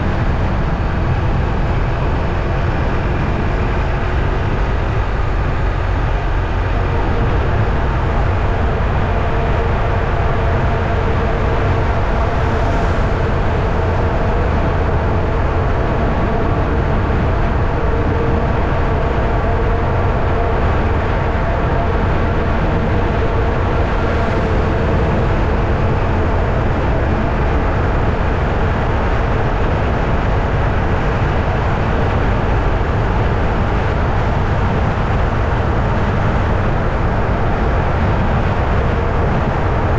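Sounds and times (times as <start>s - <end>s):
faint steady hum: 0.0s - 39.9s
moving vehicle rumble: 0.0s - 39.9s.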